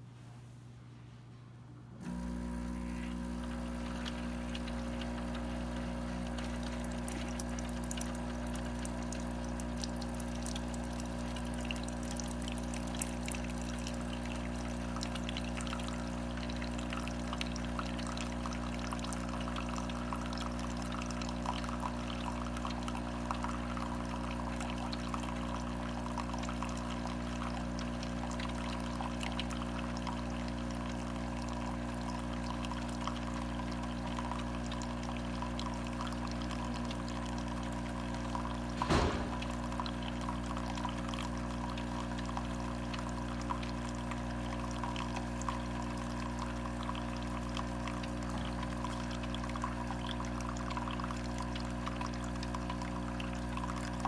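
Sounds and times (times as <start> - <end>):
coffee maker hum: 2.0 - 54.0
coffee trickling into a cup: 2.1 - 54.0.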